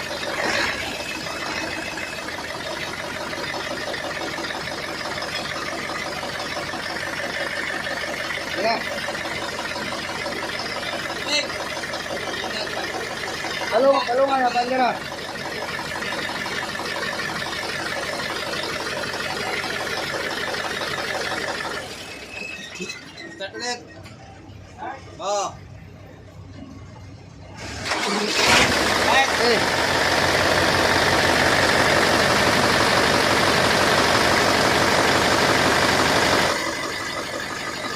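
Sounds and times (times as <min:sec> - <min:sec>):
diesel engine cranking on starter: 0:00.0 - 0:22.6, 0:27.5 - 0:37.9.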